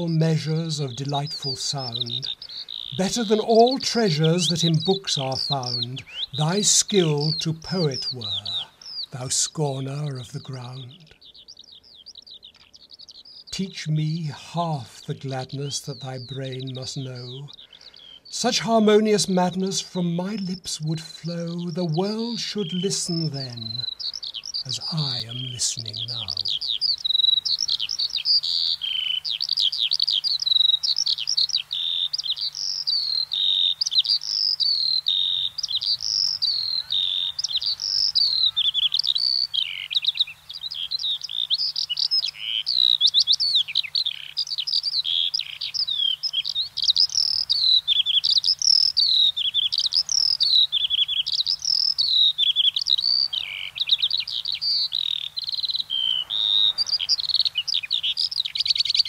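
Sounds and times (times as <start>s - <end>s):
skylark singing: 0.0s - 59.0s.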